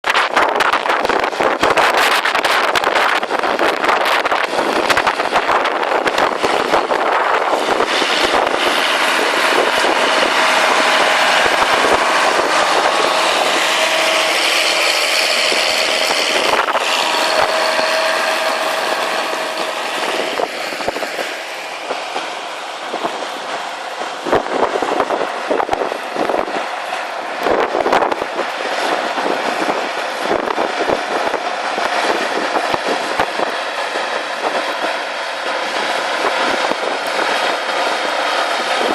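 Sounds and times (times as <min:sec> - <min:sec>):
tractor diesel engines under load: 0:00.0 - 0:38.9.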